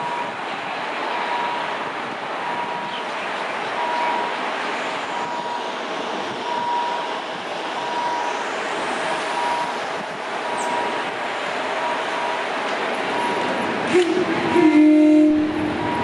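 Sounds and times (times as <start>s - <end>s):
diesel train rumbling by: 0.0s - 16.0s.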